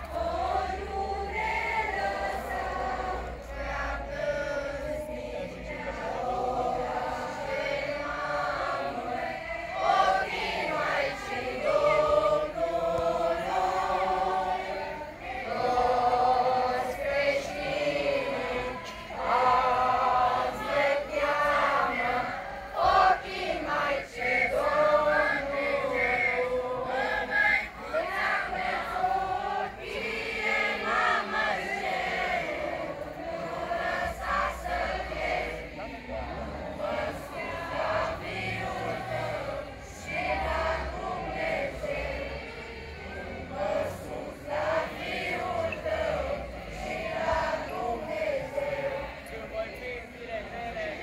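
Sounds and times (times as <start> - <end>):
group singing religious song: 0.0 - 51.0.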